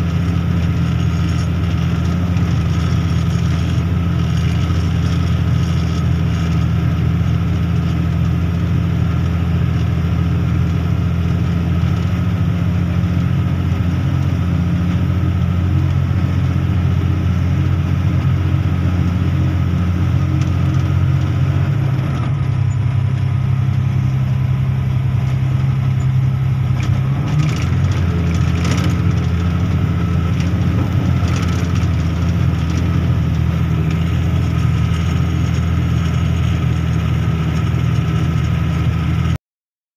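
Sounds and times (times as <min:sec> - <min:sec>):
diesel truck engine drone: 0:00.0 - 0:39.4.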